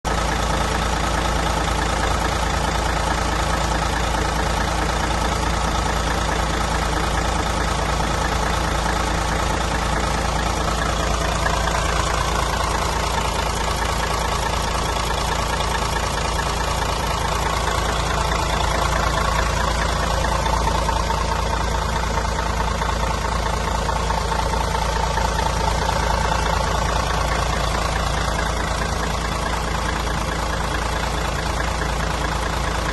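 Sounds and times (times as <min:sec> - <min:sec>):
diesel bus engine idling: 0:00.0 - 0:32.9.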